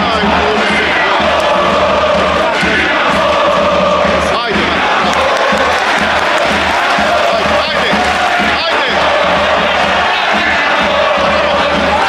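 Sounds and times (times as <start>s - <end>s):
crowd singing a chant: 0.0s - 12.0s.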